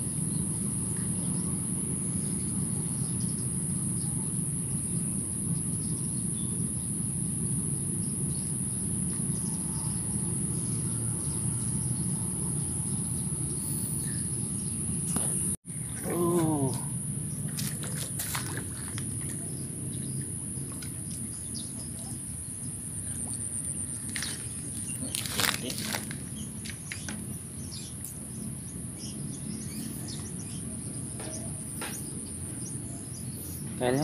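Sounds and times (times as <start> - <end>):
continuous high hiss: 0.0 - 34.0.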